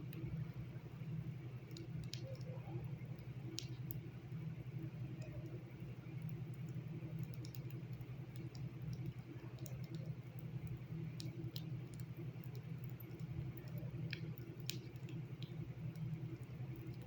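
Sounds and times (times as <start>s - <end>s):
faint clicks and ticks: 0.0s - 17.0s.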